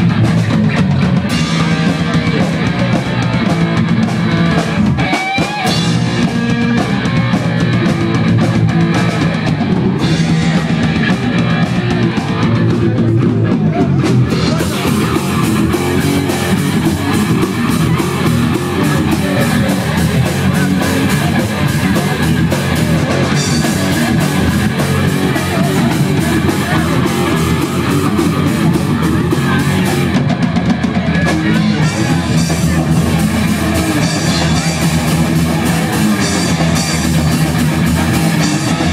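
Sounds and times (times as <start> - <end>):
punk band playing live: 0.0 - 38.9.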